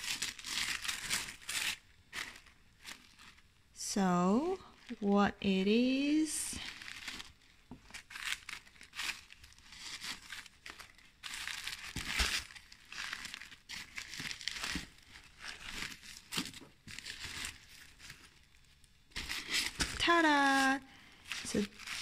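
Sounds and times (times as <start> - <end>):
paper and fabric packaging rustling: 0.0 - 3.5, 5.8 - 22.0.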